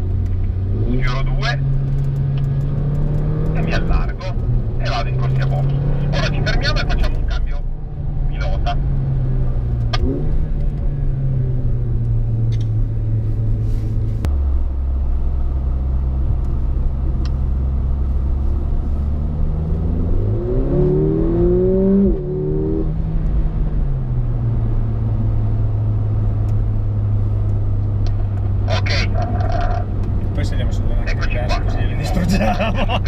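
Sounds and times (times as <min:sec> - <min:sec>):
car engine from inside cabin: 0:00.0 - 0:33.0.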